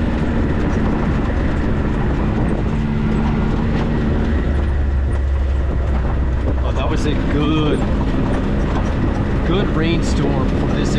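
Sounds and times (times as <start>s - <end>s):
tyre and chassis rumble: 0.0s - 10.9s
vehicle engine drone: 0.0s - 10.9s.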